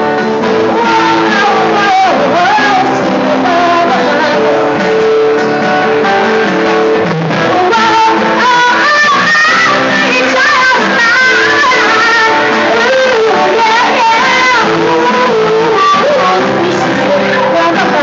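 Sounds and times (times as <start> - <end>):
acoustic guitar playing: 0.0 - 18.0
person singing: 0.0 - 18.0.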